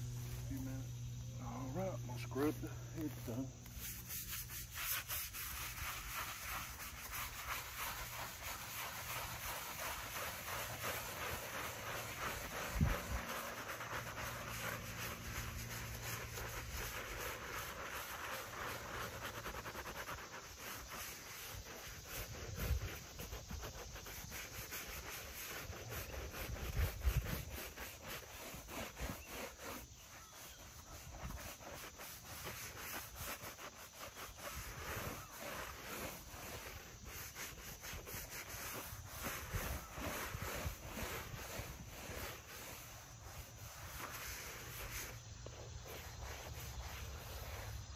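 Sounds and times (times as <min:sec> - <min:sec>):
brush scrubbing stone: 0:00.0 - 0:47.9.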